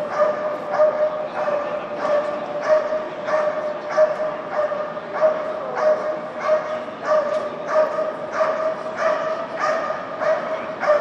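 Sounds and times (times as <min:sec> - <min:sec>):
dog barking: 0:00.0 - 0:11.0.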